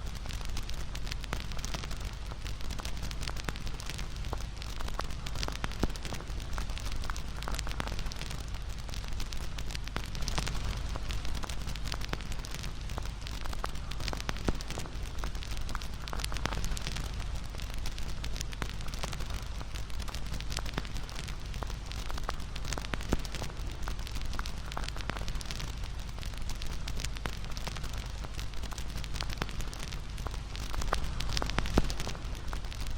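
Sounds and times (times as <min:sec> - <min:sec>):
bonfire crackling and popping: 0:00.0 - 0:32.9
low rumble of flames: 0:00.0 - 0:32.9.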